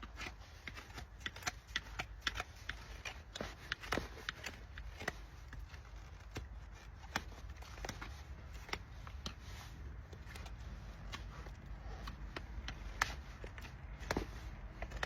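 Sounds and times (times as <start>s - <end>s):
hoof trimming clicks and snips: 0.0s - 15.0s.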